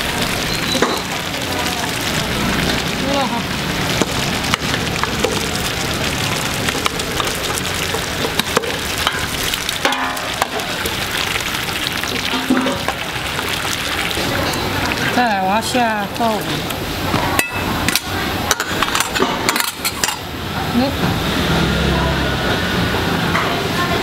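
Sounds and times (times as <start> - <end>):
broth bubbling in a wok: 0.0 - 24.0.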